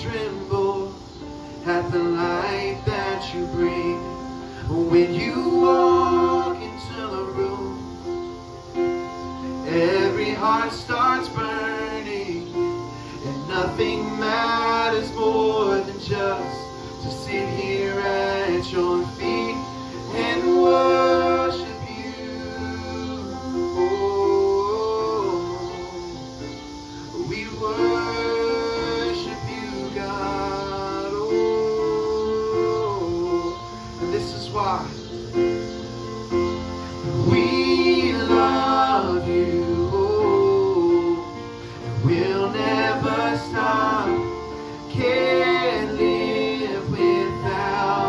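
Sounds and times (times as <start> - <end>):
guitar accompaniment: 0.0 - 48.0
voices singing: 0.0 - 48.0.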